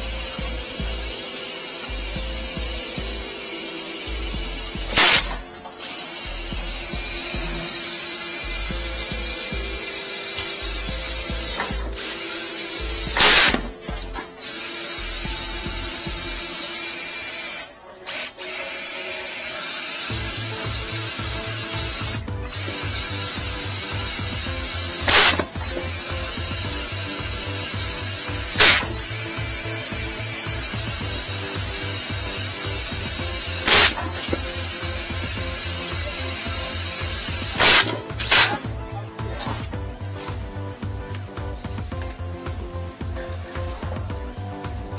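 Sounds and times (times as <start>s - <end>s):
cordless drill whining: 0.0s - 44.9s.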